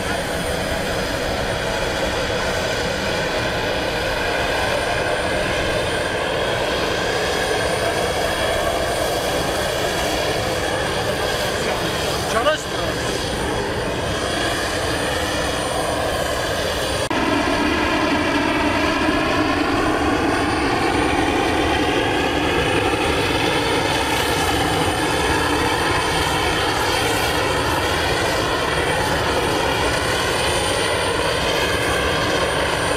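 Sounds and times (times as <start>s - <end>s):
turboprop engines running: 0.0s - 32.9s.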